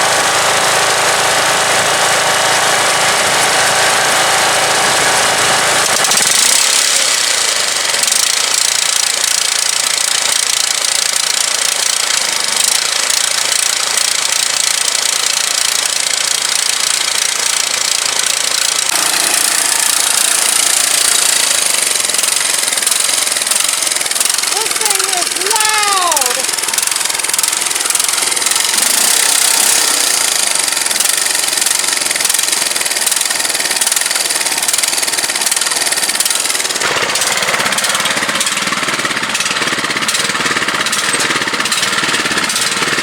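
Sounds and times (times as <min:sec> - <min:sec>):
lawn tractor engine running: 0:00.0 - 0:43.0.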